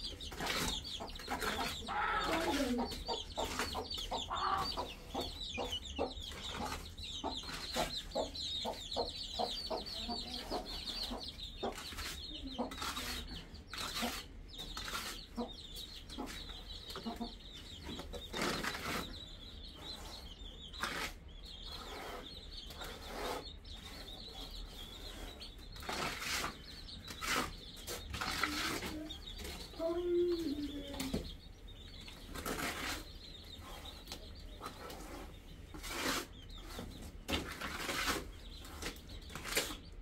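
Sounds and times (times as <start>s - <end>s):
dense high-pitched chirping: 0.0s - 37.4s
chickens clucking: 0.0s - 40.0s.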